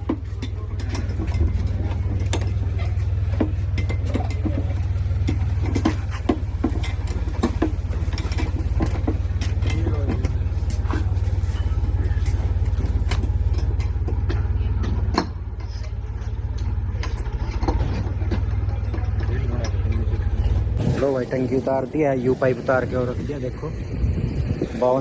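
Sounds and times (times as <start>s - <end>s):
hand tools clinking on bolts: 0.0s - 20.7s
engine idling: 0.0s - 25.0s.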